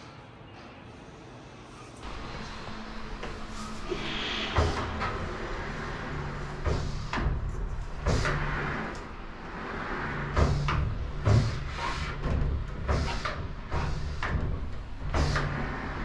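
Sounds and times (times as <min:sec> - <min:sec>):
steady low hum: 0:01.8 - 0:16.0.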